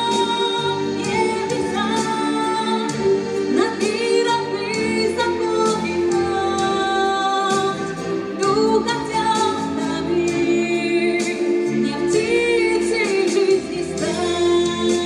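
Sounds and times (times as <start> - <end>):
instrumental accompaniment: 0.0 - 15.0
woman singing into microphone: 0.0 - 15.0.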